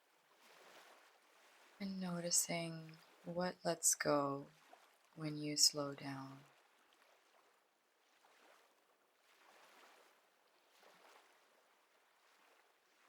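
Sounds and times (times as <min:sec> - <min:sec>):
faint ocean waves: 0:00.0 - 0:13.0.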